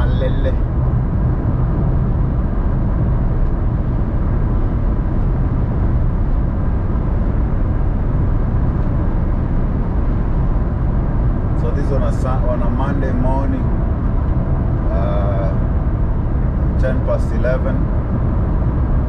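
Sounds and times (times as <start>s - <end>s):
car tyres and engine rumble: 0.0s - 19.0s.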